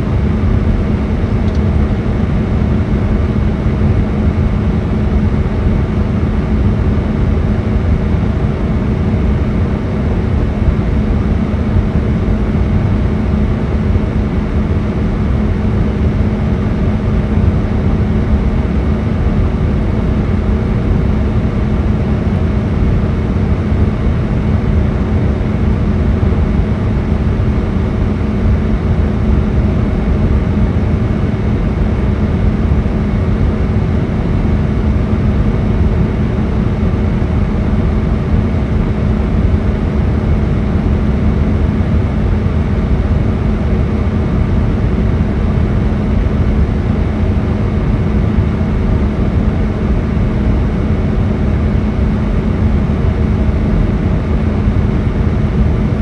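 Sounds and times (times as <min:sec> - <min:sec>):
air vent blowing: 0:00.0 - 0:56.0
faint steady hum: 0:00.0 - 0:56.0.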